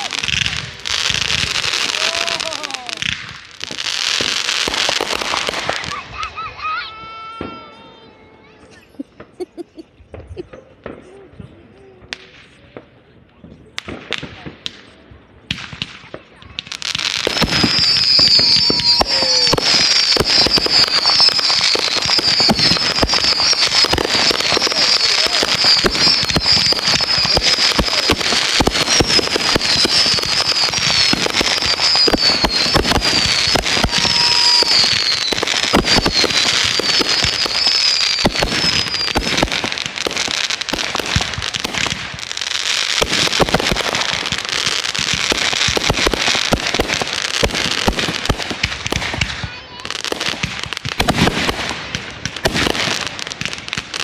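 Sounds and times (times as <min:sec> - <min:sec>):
firecrackers crackling and popping: 0:00.0 - 0:54.0.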